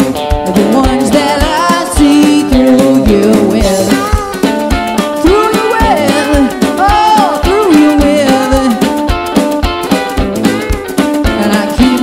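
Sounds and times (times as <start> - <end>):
person singing: 0.0 - 9.1, 11.1 - 12.0
steady drum beat: 0.0 - 12.0.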